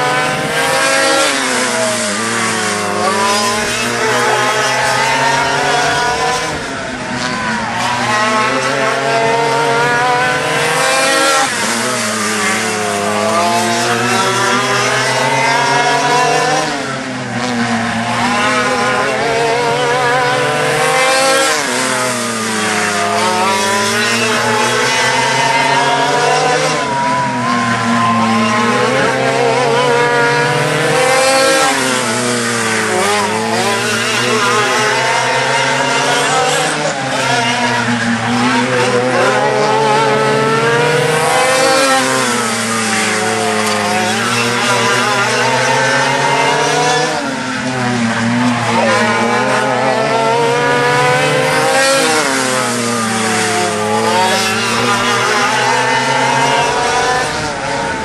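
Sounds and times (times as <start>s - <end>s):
go-kart engines racing: 0.0s - 58.0s.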